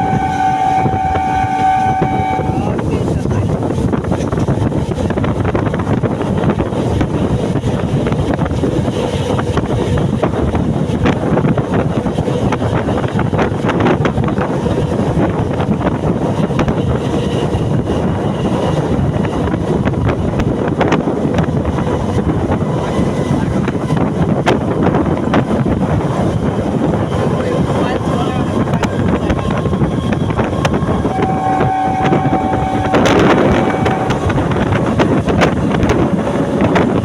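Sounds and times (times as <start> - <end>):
train rumbling: 0.0 - 37.0
wind buffeting microphone: 0.0 - 37.0.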